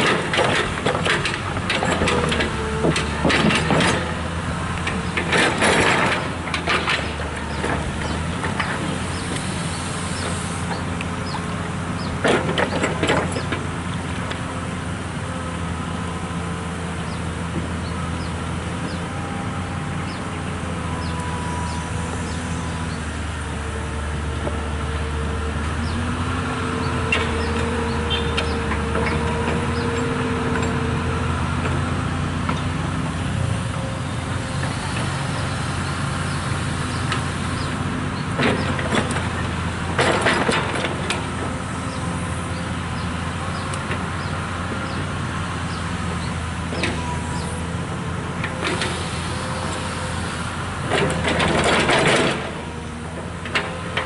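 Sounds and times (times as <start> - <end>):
hydraulic whine: 0.0 - 14.3, 17.0 - 54.0
excavator diesel engine: 0.0 - 54.0.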